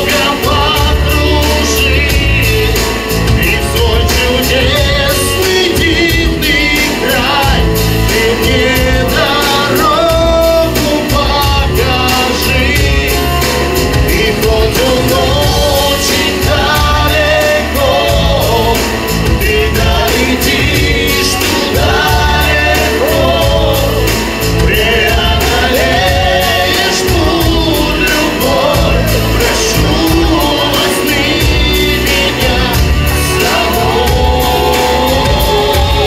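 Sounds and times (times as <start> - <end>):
backing track with bass beat: 0.0 - 36.0
man singing into microphone: 0.0 - 36.0.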